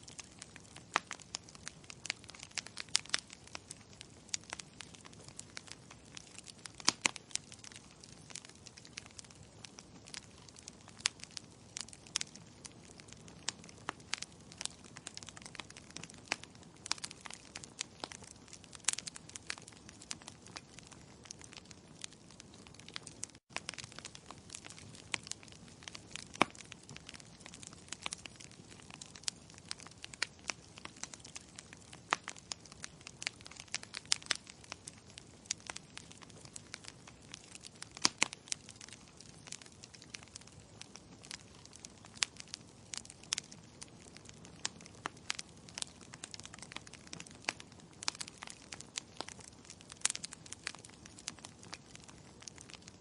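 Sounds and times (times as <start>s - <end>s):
soft steady fire hiss: 0.0s - 53.0s
wood fire crackling and popping: 0.0s - 53.0s.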